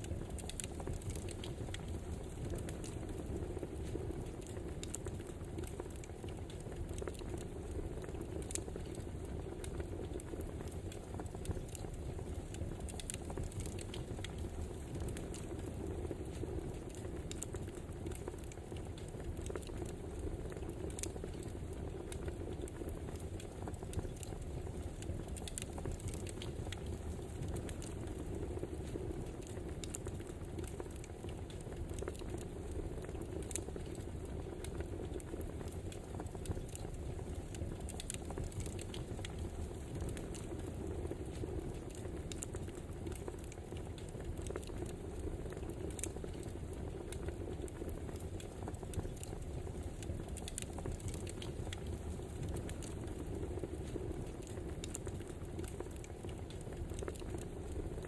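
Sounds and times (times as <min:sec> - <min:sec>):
fire pops and snaps: 0:00.0 - 0:58.0
wood fire crackling: 0:00.0 - 0:58.0.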